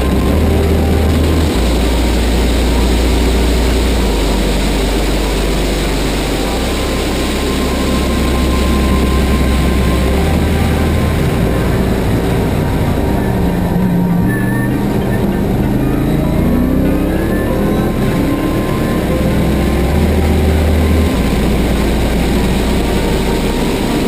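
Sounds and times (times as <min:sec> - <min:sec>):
race car engine running hard: 0:00.0 - 0:24.0.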